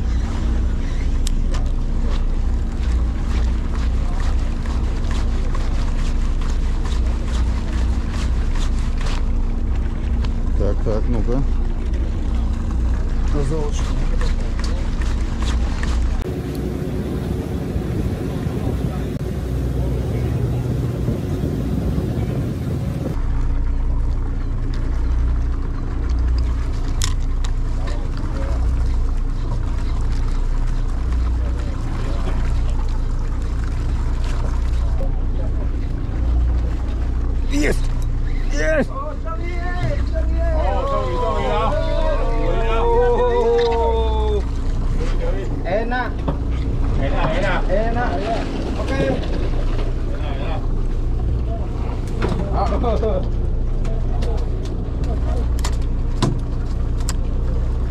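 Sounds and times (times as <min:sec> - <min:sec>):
boat engine rumbling: 0:00.0 - 0:57.9
rushing wind and water: 0:00.0 - 0:57.9.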